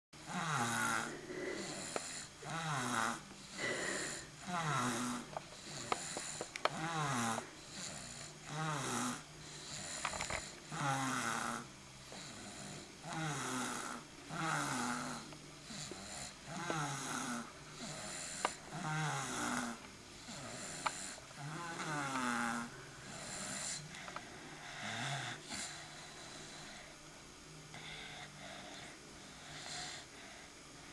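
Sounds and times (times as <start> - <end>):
rasping snores: 0.2 - 24.0, 24.6 - 26.9.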